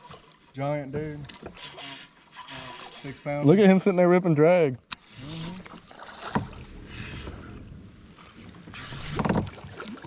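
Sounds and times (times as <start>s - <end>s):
water splashing around a kayak: 0.0s - 10.0s.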